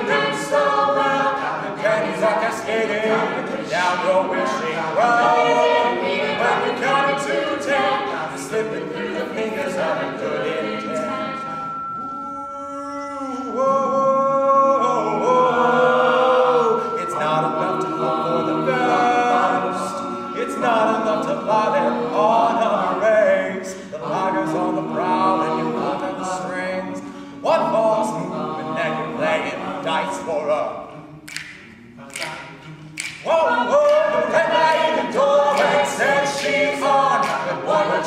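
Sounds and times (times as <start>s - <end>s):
group singing backing harmonies: 0.0s - 38.0s.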